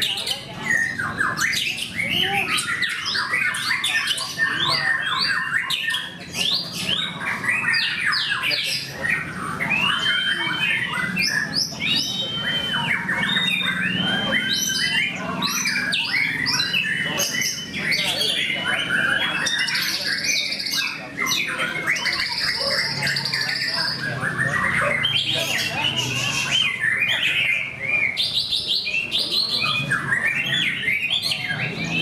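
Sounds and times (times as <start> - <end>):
birds singing rapid whistles: 0.0 - 32.0
long level bird whistles: 0.6 - 28.4.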